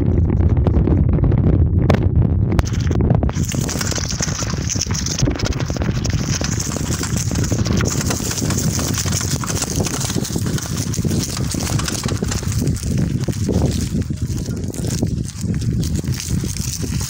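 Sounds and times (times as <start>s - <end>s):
wind on microphone: 0.0s - 17.0s
bike rattling and knocking: 2.6s - 17.0s.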